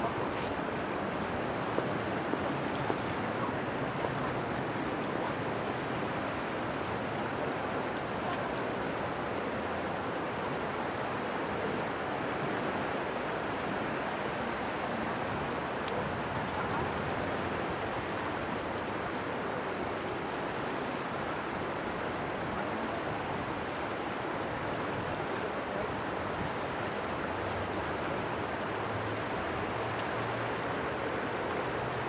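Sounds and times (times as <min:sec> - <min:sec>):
river water rushing: 0:00.0 - 0:32.0
wind: 0:00.0 - 0:32.0.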